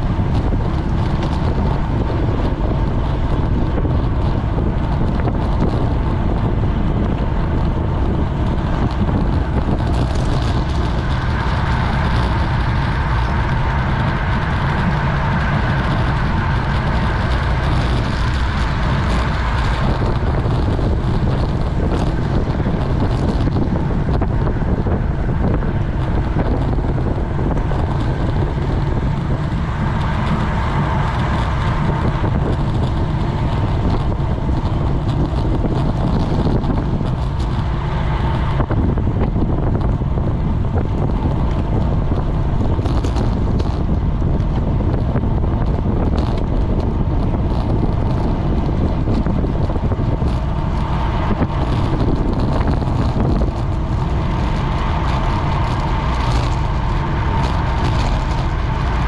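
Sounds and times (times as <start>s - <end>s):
low rumble of bike ride: 0.0s - 59.0s
wind rushing over microphone: 0.0s - 59.0s.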